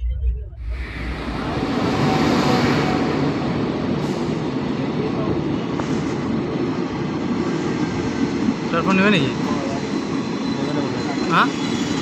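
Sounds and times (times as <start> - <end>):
train rumbling and rattling on track: 0.0 - 12.0.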